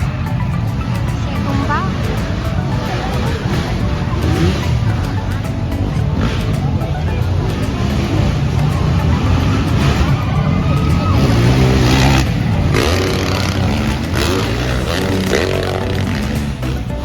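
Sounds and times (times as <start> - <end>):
motorbike engines revving: 0.0 - 17.0.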